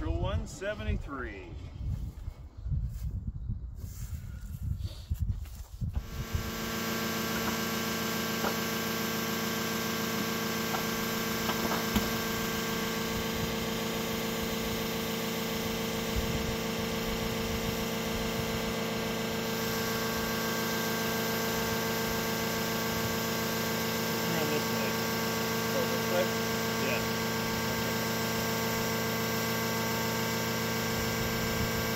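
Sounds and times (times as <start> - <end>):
steady machine hum: 5.9 - 31.9.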